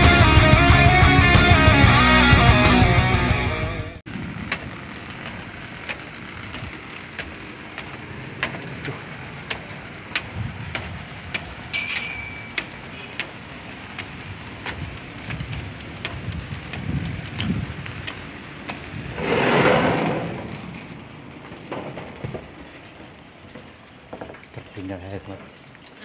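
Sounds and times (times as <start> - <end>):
rain drops tapping: 4.1 - 26.0.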